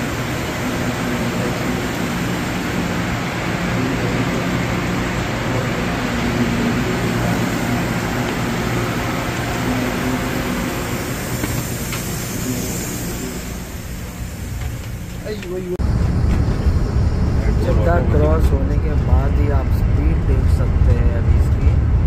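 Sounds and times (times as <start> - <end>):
low drone: 0.0 - 22.0
ventilation hum with air rush: 0.0 - 22.0.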